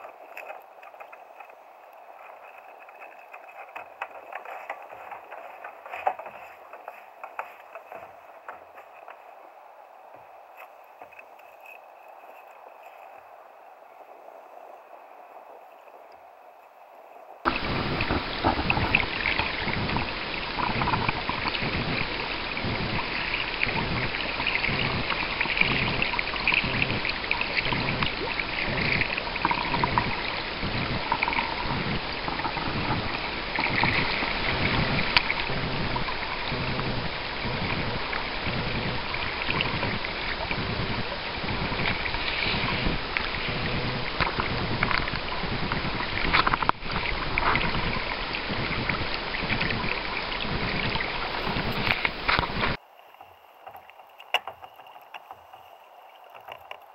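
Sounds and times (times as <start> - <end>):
water splashing along kayak hull: 0.0 - 56.9.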